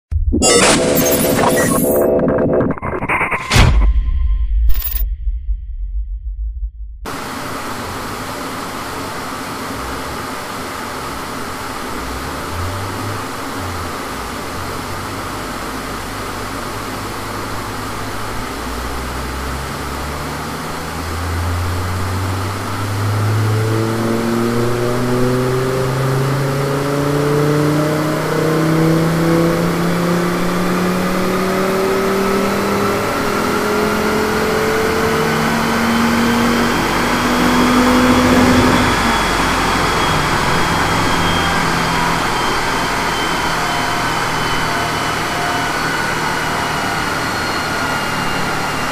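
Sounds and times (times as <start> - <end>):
rising whine: 0.1 - 48.9
car engine revving at full throttle: 7.1 - 48.9.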